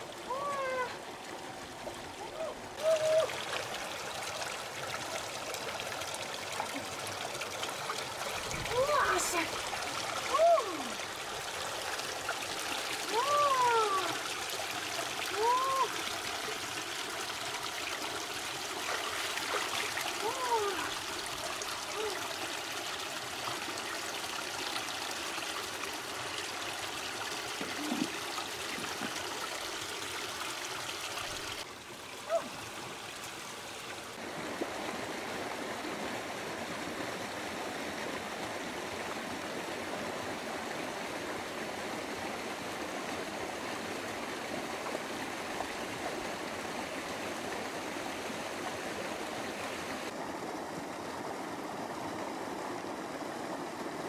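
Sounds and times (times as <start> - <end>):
stream water over rocks: 0.0 - 54.0.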